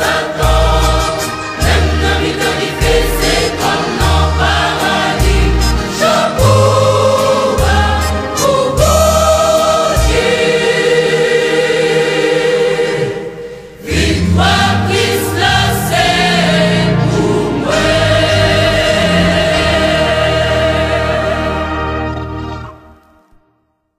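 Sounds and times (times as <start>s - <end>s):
choir singing gospel song: 0.0s - 22.4s.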